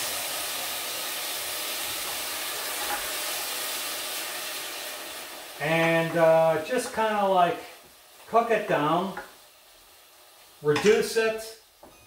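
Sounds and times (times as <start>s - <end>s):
wine sizzling in hot pan: 0.0s - 12.0s.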